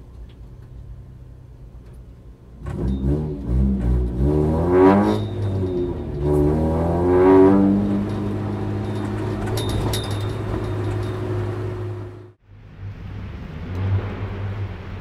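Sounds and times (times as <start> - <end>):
car engine revving: 2.5 - 15.0.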